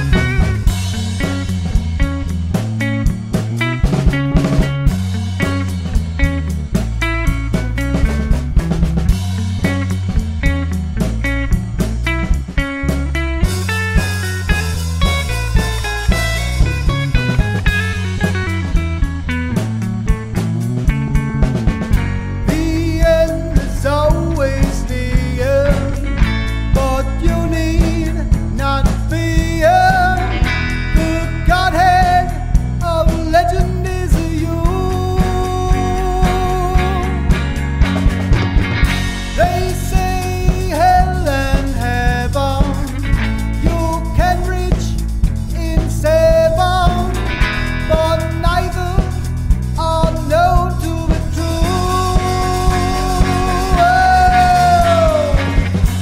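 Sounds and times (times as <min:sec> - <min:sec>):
bass: 0:00.0 - 0:56.0
drums beating: 0:00.0 - 0:56.0
lead guitar bending notes: 0:00.0 - 0:56.0
psychedelic rock band music: 0:00.0 - 0:56.0.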